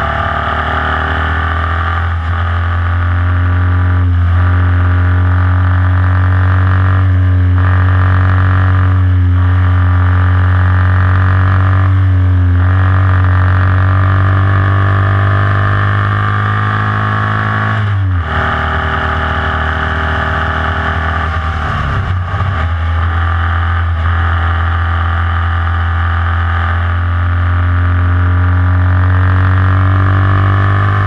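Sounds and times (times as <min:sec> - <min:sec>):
race car engine at high revs: 0:00.0 - 0:31.0.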